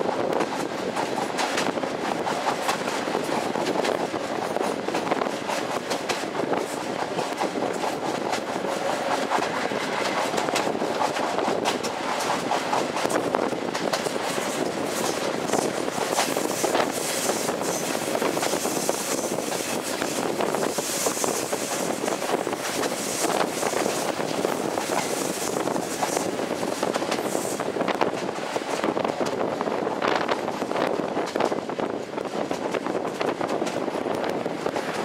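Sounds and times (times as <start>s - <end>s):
train wheels rumbling on rail: 0.0s - 35.0s
wheels clacking over rail joints: 0.1s - 29.4s.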